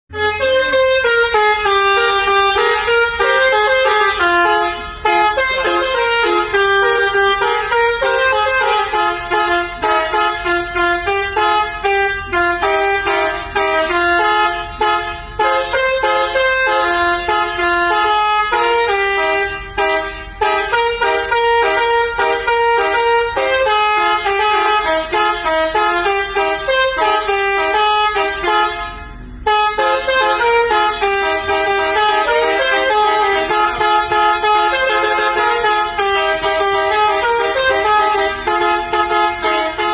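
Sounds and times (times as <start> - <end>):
musical bus horn melody: 0.1 - 39.9.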